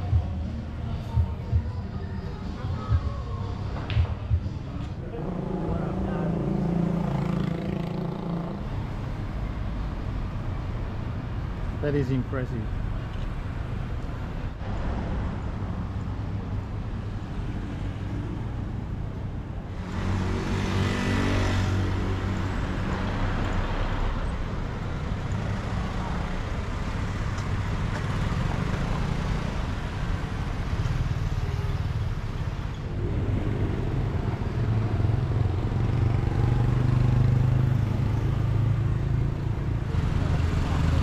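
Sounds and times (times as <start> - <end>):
road traffic engines humming: 0.0 - 41.0.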